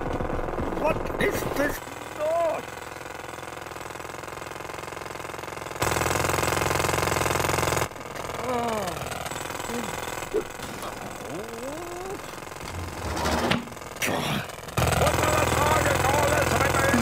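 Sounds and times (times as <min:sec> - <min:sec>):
air compressor running: 0:01.6 - 0:17.0
jackhammer hammering: 0:01.6 - 0:17.0.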